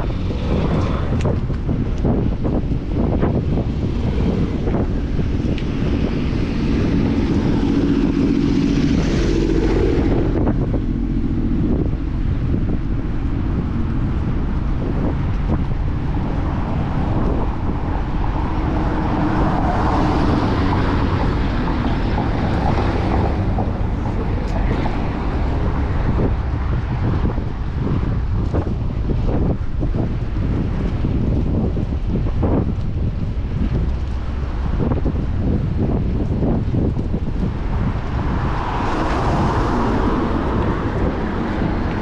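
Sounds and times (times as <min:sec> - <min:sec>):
motor traffic passing: 0:00.0 - 0:42.0
wind buffeting microphone: 0:00.0 - 0:42.0.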